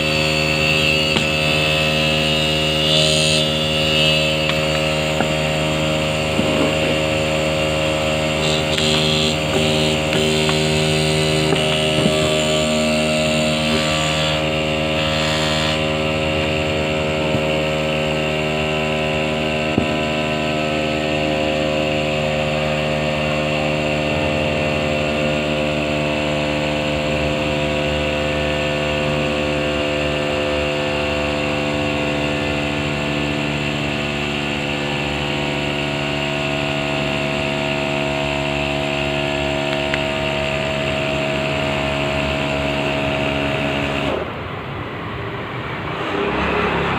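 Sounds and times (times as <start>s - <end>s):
motor humming steadily: 0.0s - 44.3s.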